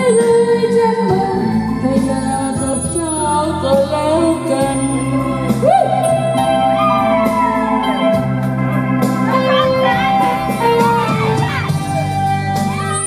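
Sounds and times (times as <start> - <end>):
loud music accompaniment: 0.0 - 13.0.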